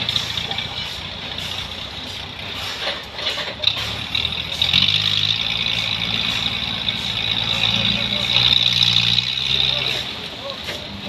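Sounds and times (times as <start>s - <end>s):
engine running with high whine: 0.0s - 11.0s.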